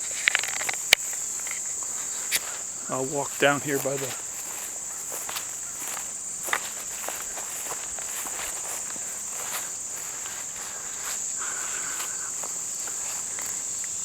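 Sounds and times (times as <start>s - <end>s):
crickets and insects droning: 0.0s - 14.0s
footsteps through grass and brush: 0.0s - 14.0s.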